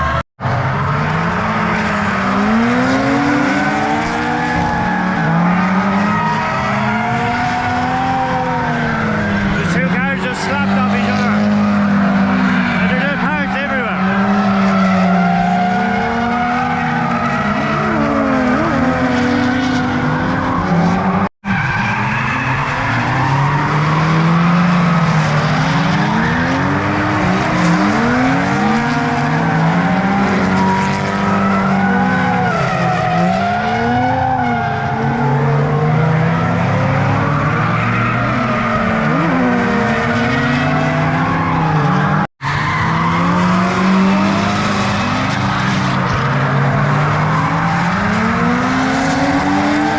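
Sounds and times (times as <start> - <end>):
car engines revving: 0.0 - 49.9
tyres squealing and skidding: 0.0 - 49.9.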